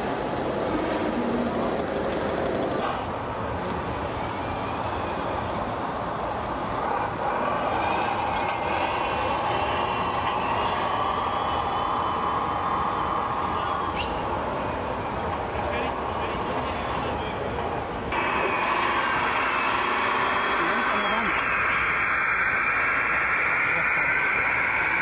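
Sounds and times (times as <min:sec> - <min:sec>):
continuous rumble: 0:00.0 - 0:25.0.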